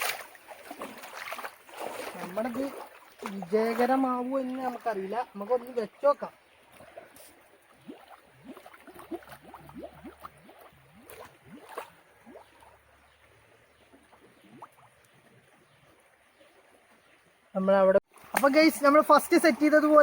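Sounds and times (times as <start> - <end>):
faint water gurgling: 0.0 - 20.0
small water splashes: 0.0 - 20.0.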